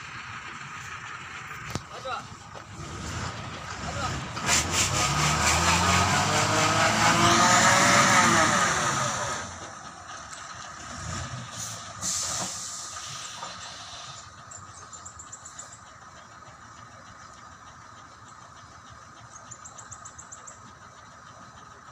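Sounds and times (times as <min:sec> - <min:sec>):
lorry engine revving: 0:00.0 - 0:21.9.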